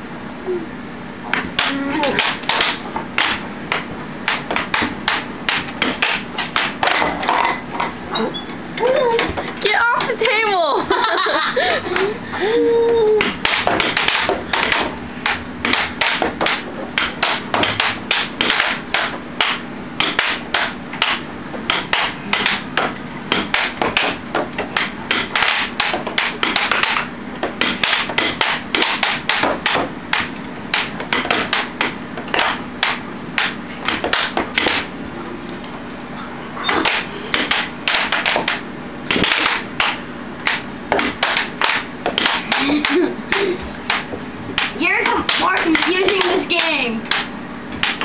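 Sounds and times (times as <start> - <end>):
air hockey table blower hum: 0.0 - 48.0
air hockey puck clacking: 1.3 - 7.9, 13.2 - 34.9, 36.7 - 48.0.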